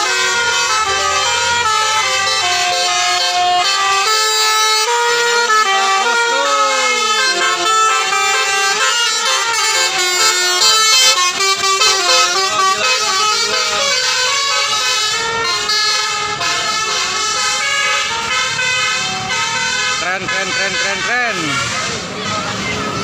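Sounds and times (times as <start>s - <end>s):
bus horns playing a tune: 0.0s - 23.0s.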